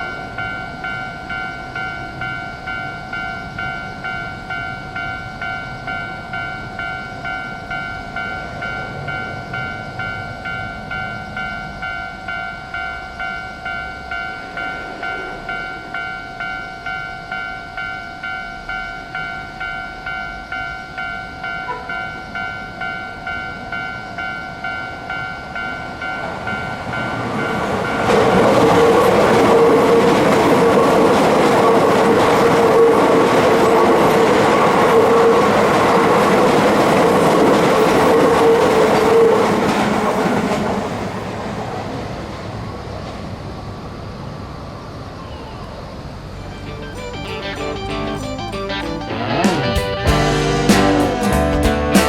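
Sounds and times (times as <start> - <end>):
level crossing warning bell: 0.0 - 39.6, 46.3 - 49.8
electric train passing: 0.0 - 52.0.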